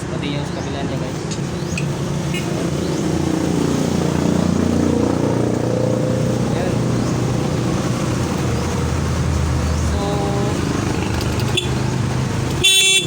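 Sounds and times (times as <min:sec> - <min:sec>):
scooter engine idling: 0:01.4 - 0:13.0.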